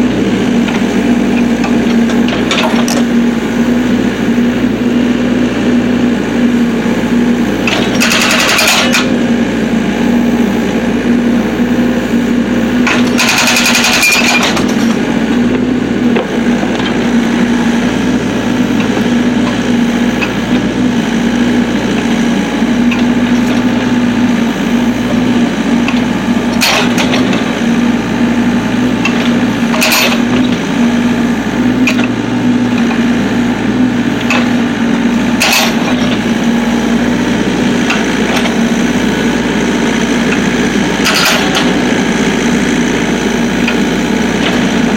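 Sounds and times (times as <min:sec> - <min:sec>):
hydraulic breaker striking logs: 0:00.0 - 0:03.5, 0:07.6 - 0:09.2, 0:12.7 - 0:44.9
excavator engine drone: 0:00.0 - 0:44.9.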